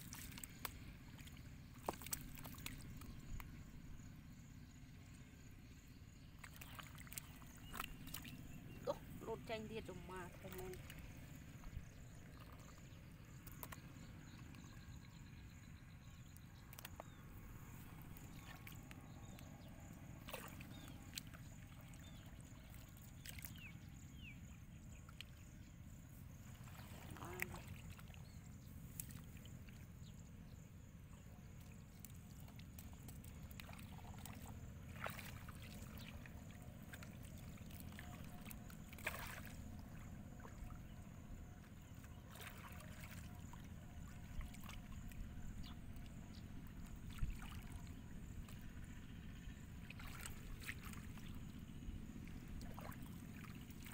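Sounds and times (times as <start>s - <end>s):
faint low rumble: 0.0s - 53.9s
splashing in shallow muddy water: 0.0s - 53.9s.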